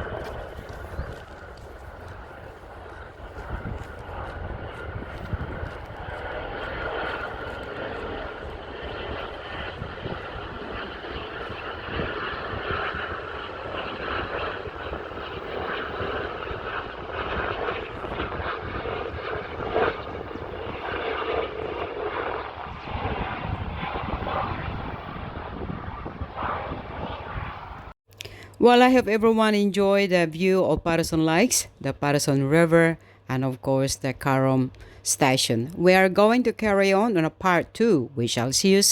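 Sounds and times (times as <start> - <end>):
helicopter flying by: 0.0 - 38.9.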